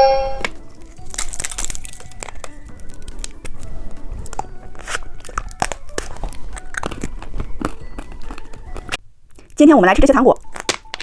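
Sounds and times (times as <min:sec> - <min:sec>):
faint background music: 0:00.0 - 0:11.0
candy crackling while eaten: 0:00.7 - 0:11.0.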